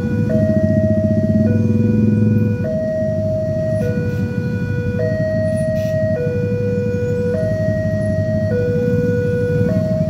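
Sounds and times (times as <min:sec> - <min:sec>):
level crossing two-tone alarm: 0:00.0 - 0:10.0
low rumble of traffic: 0:00.0 - 0:10.0.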